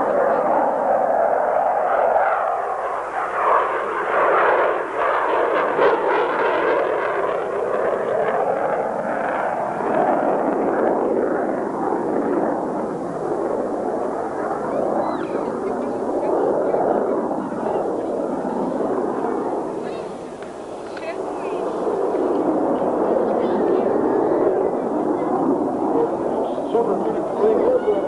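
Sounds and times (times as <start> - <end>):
jet aircraft flying by: 0.0 - 28.0.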